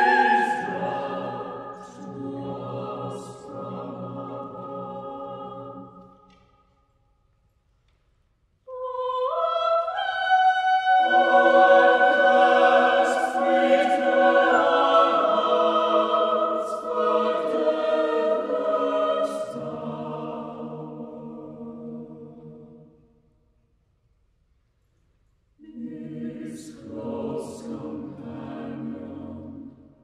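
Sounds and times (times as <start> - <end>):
choir singing sustained chords: 0.0 - 6.4, 8.7 - 23.4, 25.6 - 30.0.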